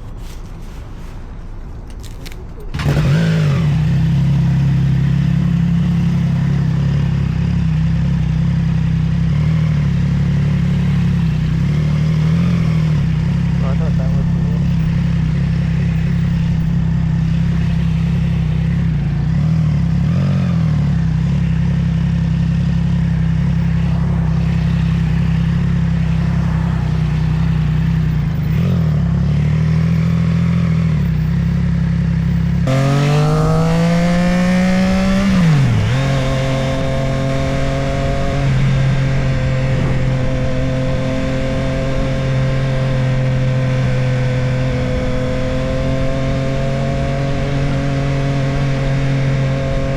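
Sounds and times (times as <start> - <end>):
motorcycle engine accelerating: 2.0 - 49.9.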